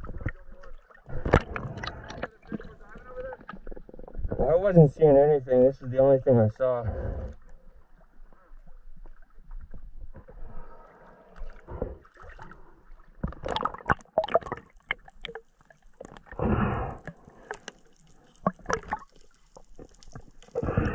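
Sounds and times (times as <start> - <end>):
water splashes: 0.0 - 4.5, 7.8 - 20.9
water sloshing and gurgling: 0.0 - 20.9.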